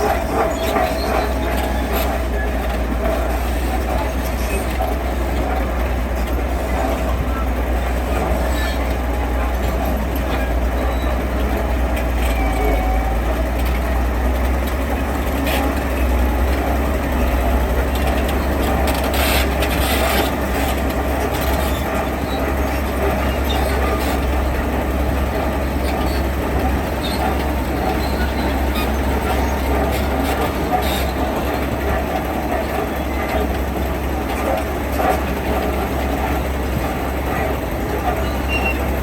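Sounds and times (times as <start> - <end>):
diesel machinery rumbling: 0.0 - 39.0.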